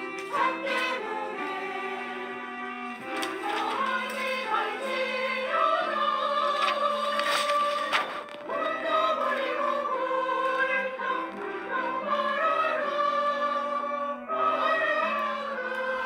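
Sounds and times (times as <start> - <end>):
church choir singing a hymn: 0.0 - 16.0.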